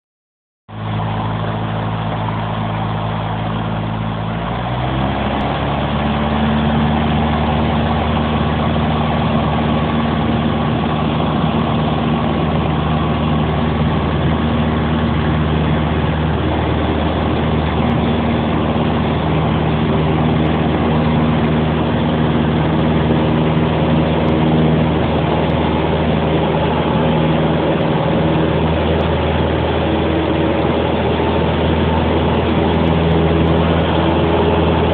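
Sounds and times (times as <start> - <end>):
light aircraft engine and propeller: 0.7 - 34.9.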